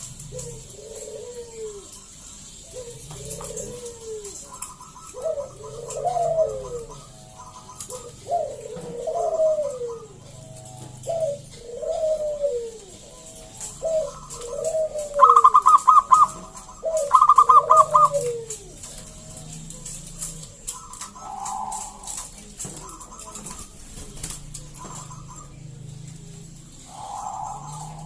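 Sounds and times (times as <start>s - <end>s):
doves cooing: 0.0s - 28.0s.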